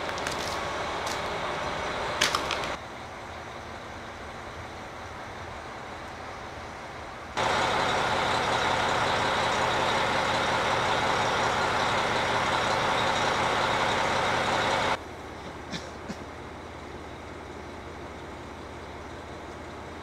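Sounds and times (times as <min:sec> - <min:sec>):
train engines idling: 0:00.0 - 0:20.0.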